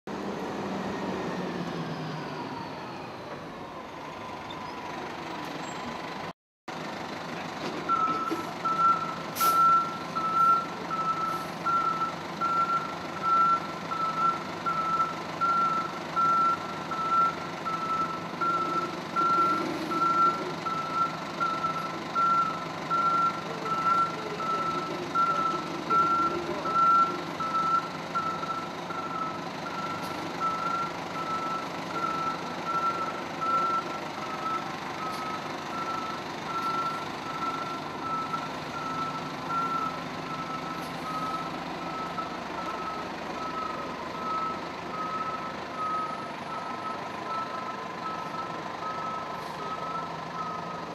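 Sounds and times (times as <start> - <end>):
diesel engine running: 0.1 - 50.9
reversing alarm beeping: 7.9 - 50.8.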